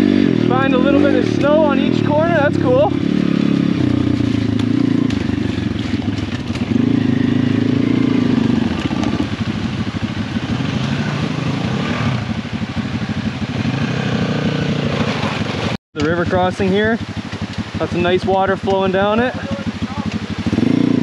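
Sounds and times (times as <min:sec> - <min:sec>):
dirt bike engines revving: 0:00.0 - 0:21.0
bike riding through water: 0:00.2 - 0:21.0.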